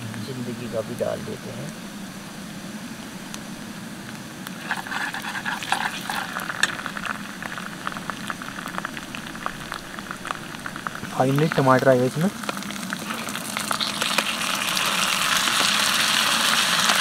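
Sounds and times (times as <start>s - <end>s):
onions sizzling in oil: 0.2s - 17.0s.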